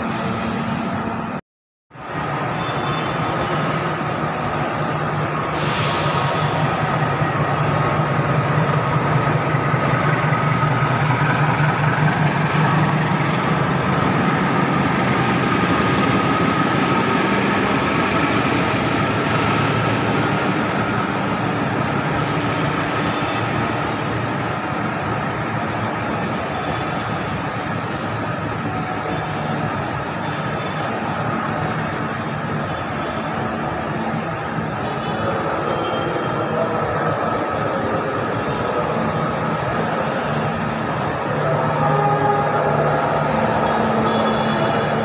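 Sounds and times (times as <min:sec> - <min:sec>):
train coaches rolling: 0:03.1 - 0:45.0.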